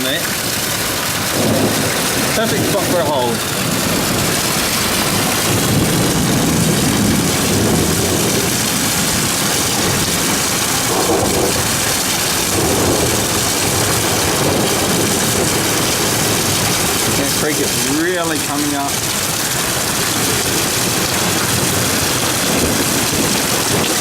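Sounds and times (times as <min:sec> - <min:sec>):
heavy rain pouring: 0:00.0 - 0:24.0
runoff water pouring: 0:00.0 - 0:24.0.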